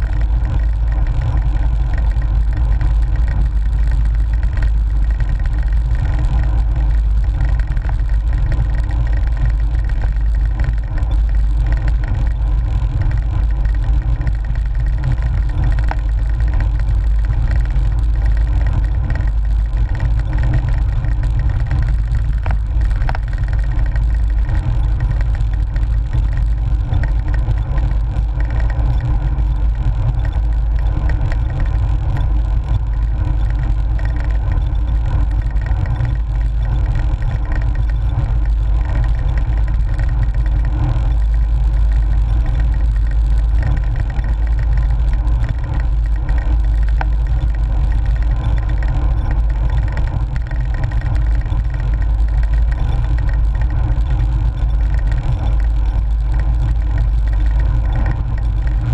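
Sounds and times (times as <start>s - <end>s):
low wind rumble: 0.0s - 58.9s
rolling road noise: 0.0s - 58.9s.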